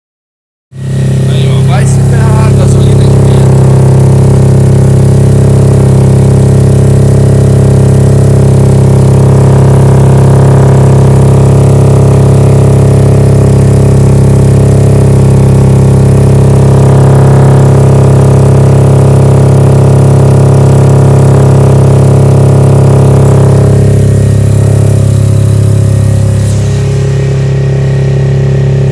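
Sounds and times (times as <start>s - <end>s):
motorcycle engine idling loudly: 0.7s - 28.9s.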